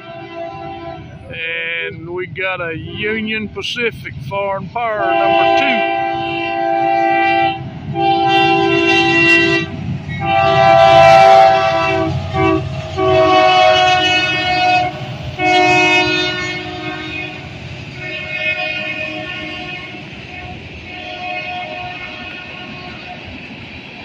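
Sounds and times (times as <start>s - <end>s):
locomotive air horn blasts: 0.0s - 1.3s, 5.0s - 23.2s
diesel locomotive rumble: 0.0s - 24.0s.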